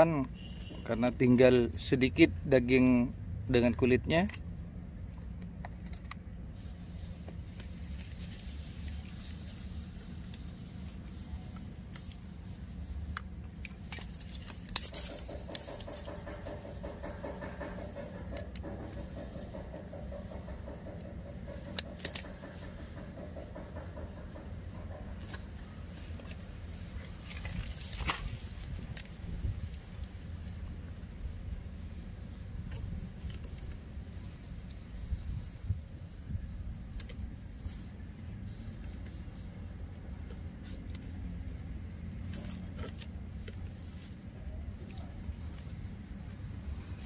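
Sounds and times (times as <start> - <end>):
wire clicking and scraping: 3.7 - 30.9, 32.5 - 35.7, 36.4 - 47.0.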